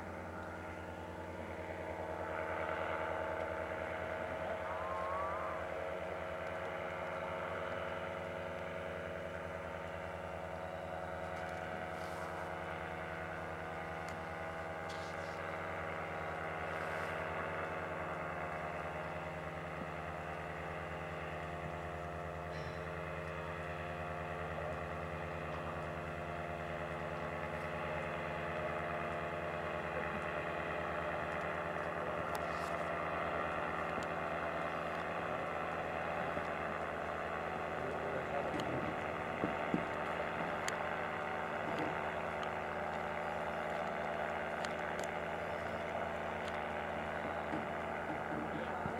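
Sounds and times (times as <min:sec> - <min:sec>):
paramotor engine drone: 0:00.0 - 0:48.9.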